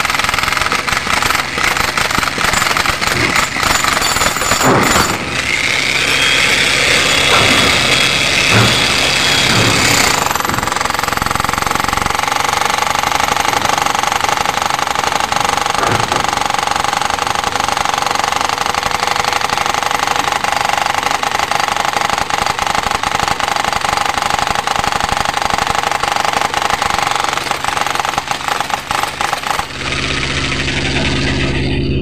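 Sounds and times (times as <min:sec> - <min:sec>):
jackhammer chiseling concrete: 0:00.0 - 0:31.6.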